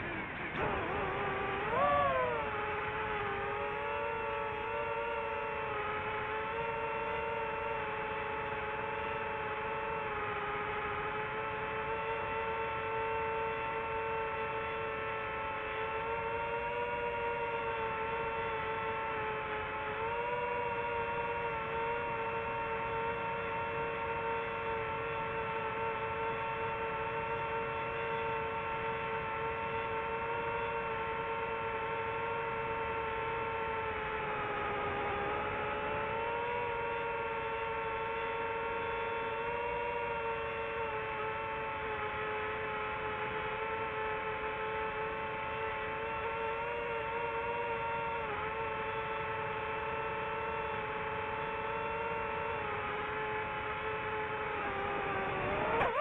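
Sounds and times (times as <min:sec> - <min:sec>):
small motor humming: 0:00.0 - 0:56.0.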